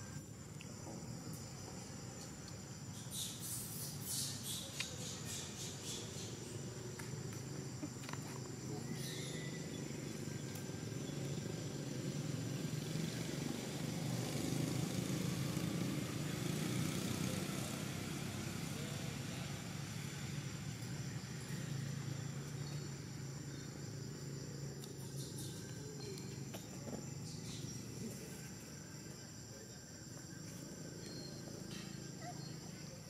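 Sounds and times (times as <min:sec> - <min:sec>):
high-pitched insect drone: 0:01.2 - 0:33.0.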